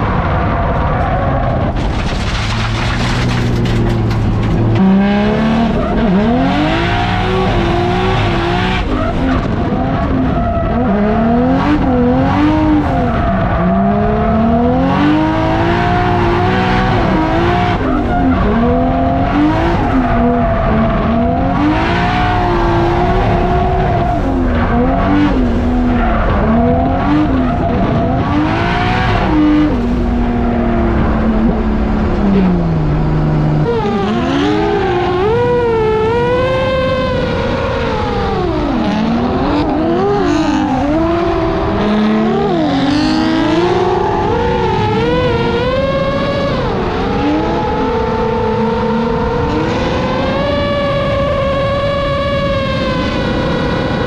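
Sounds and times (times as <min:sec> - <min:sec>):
car engine revving hard: 0:01.4 - 0:54.0.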